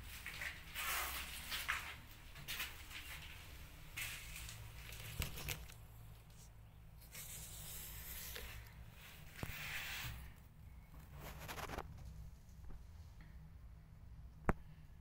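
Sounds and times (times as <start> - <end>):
steady low hum: 1.8 - 15.0.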